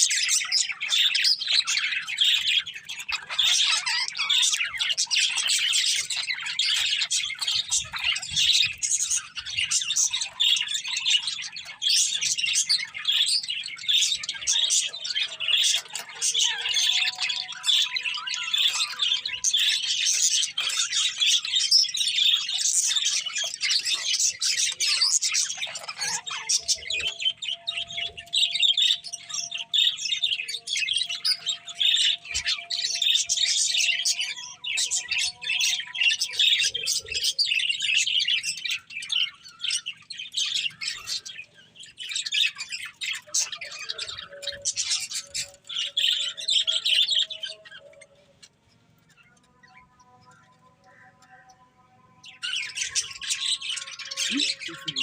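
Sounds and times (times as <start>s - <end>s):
budgerigars chirping and chattering: 0.0s - 51.6s, 52.2s - 55.0s.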